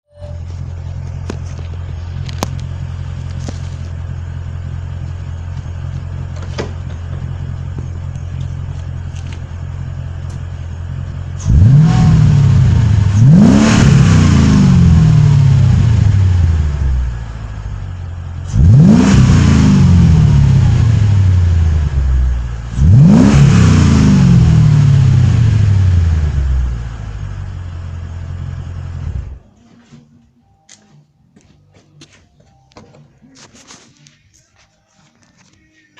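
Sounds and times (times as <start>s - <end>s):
car engine idling and revving: 0.1s - 29.4s.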